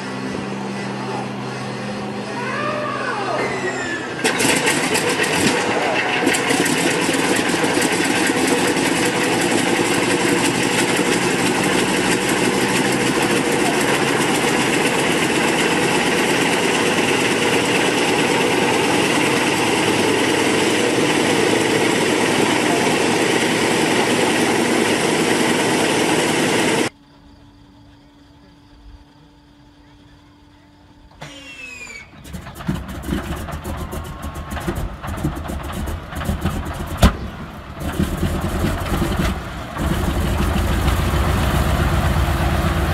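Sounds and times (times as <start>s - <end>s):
radial aircraft engine running: 0.0s - 42.9s.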